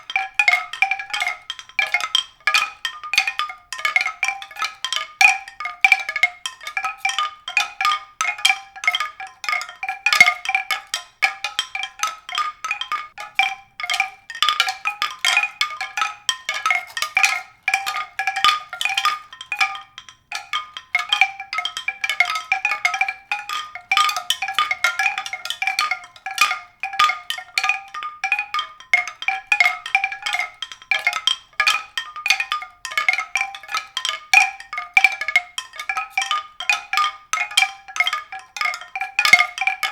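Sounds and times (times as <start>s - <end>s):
high-pitched tinkling mallet notes: 0.0s - 39.9s.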